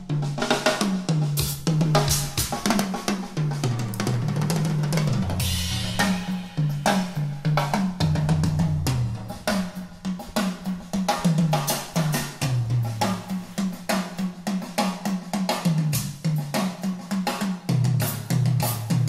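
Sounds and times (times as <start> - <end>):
drum kit fast groove: 0.0 - 19.0.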